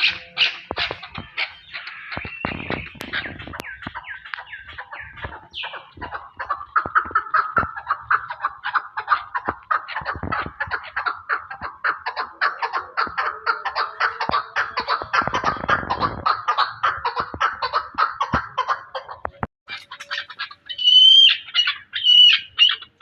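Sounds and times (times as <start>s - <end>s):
partridges calling: 0.0s - 23.0s.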